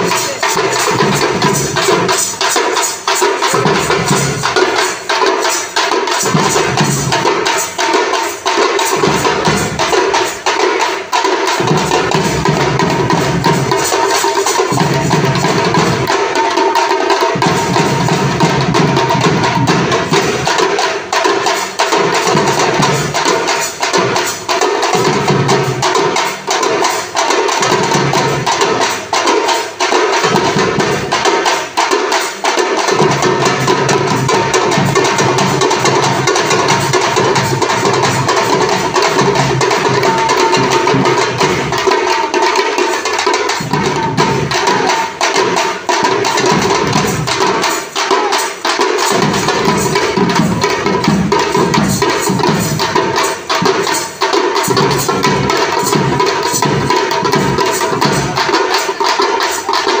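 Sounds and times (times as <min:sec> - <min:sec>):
frame drums beaten with sticks: 0:00.0 - 1:00.0.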